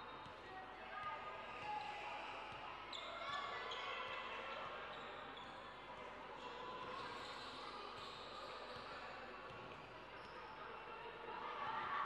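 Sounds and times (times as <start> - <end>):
background hubbub: 0.0 - 12.0.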